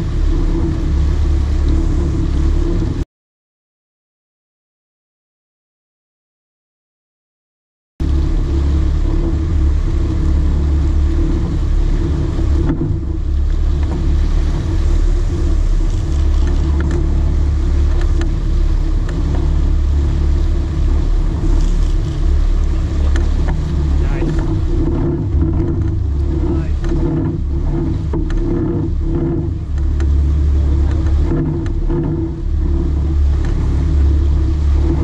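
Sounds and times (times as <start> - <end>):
boat engine rumbling: 0.0 - 3.0, 8.0 - 35.0
wind and water hiss: 0.0 - 3.0, 8.0 - 35.0.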